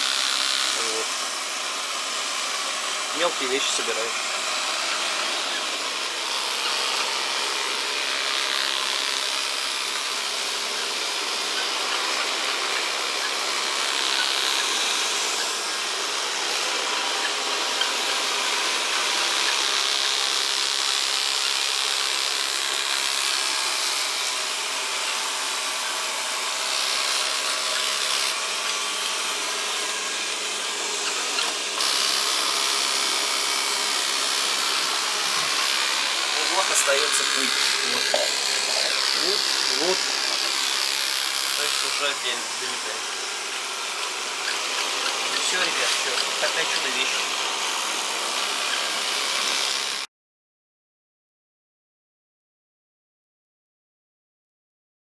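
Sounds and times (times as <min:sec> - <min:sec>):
robot vacuum cleaner whirring: 0:00.0 - 0:50.1.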